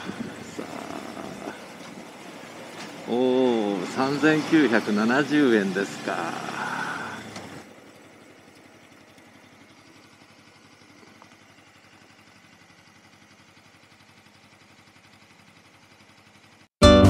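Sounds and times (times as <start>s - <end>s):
motorcycle engine idling: 0.0s - 16.7s.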